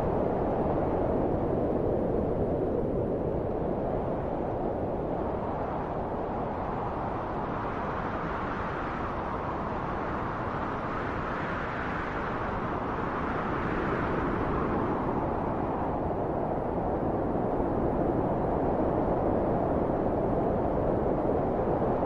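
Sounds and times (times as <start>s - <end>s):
rushing wind: 0.0s - 22.0s.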